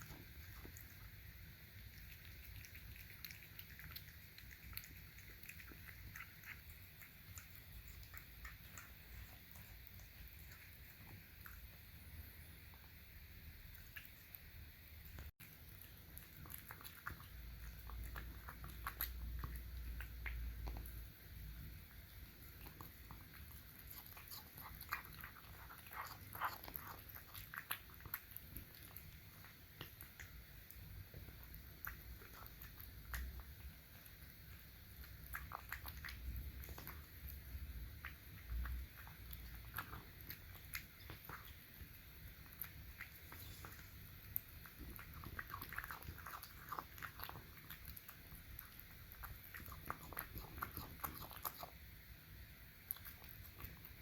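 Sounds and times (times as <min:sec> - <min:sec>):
cat eating wet food: 0:00.0 - 0:54.0.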